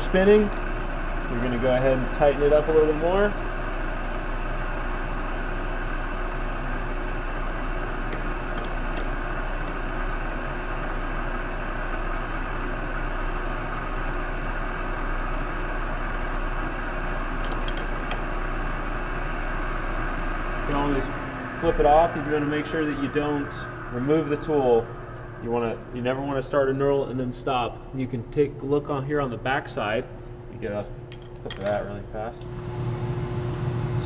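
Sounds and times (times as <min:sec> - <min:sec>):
metal lathe running: 0:00.0 - 0:27.8.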